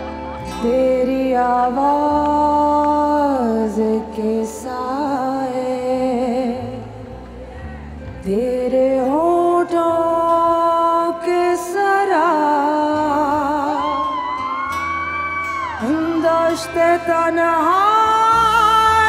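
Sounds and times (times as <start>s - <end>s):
woman singing into microphone: 0.0s - 19.0s.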